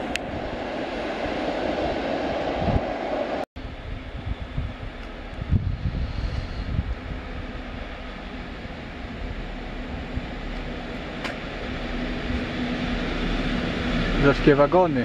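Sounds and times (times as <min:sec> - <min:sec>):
electric train hum: 0:00.0 - 0:15.0
low rumble from the track: 0:00.0 - 0:15.0
wind gusting on microphone: 0:00.0 - 0:15.0.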